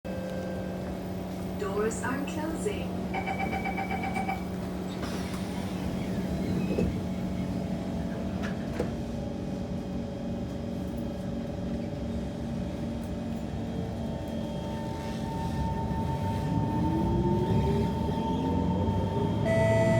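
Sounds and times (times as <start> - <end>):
train car rumble and hum: 0.0 - 19.9.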